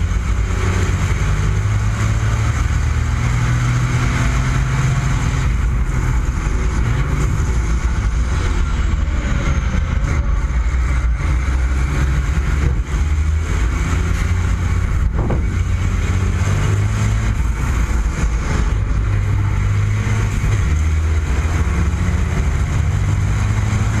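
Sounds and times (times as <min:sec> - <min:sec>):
diesel truck engine racing: 0:00.0 - 0:24.0.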